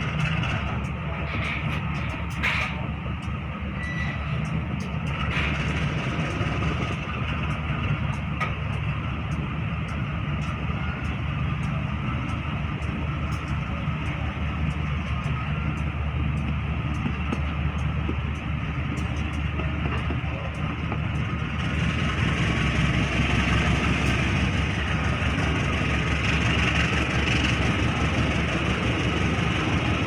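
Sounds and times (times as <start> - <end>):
train coaches rolling past: 0.0 - 30.0.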